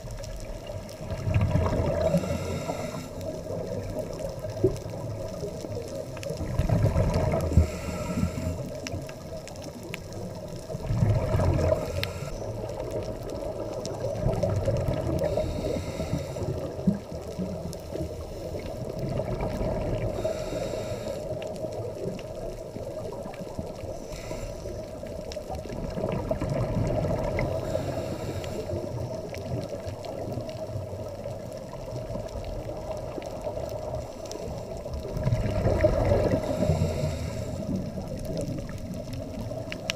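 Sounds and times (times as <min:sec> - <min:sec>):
regulator bubbles gurgling underwater: 0:00.0 - 0:39.9
underwater hum: 0:00.0 - 0:39.9.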